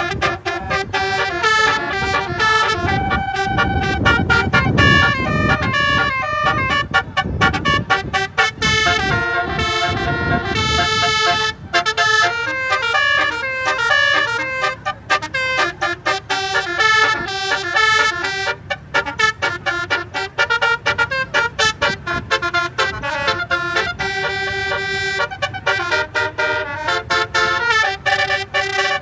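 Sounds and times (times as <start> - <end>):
musical bus horn tune: 0.0 - 29.0.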